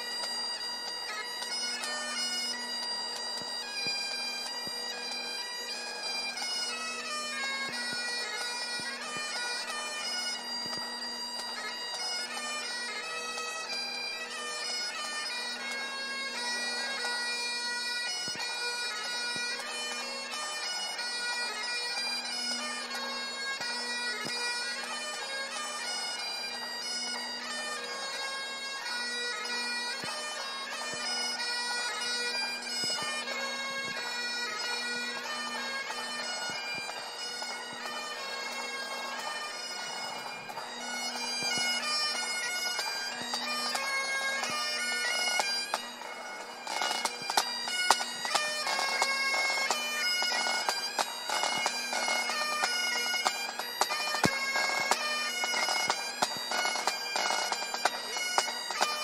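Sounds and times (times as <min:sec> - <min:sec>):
bagpipes playing melody: 0:00.0 - 0:59.0.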